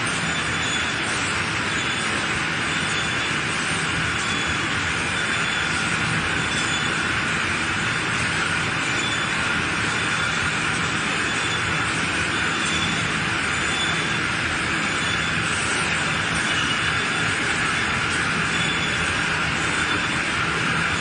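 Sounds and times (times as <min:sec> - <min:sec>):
boiling machine running hiss: 0:00.0 - 0:21.0.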